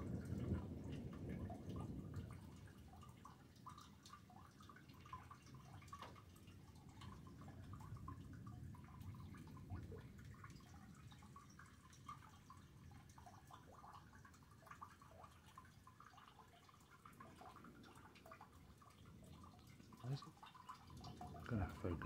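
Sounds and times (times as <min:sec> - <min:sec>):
low steady background noise: 0:00.0 - 0:22.0
rainwater dripping: 0:00.0 - 0:22.0.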